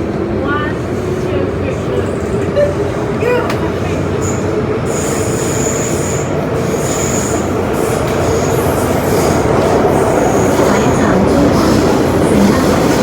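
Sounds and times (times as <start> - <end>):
train wheels and motors rumbling: 0.0 - 13.0.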